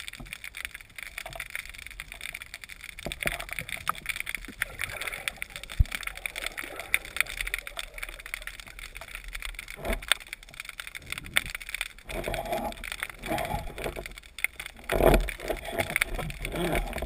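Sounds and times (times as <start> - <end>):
crackle of small underwater clicks: 0.0 - 17.0
water gurgling: 0.0 - 17.0.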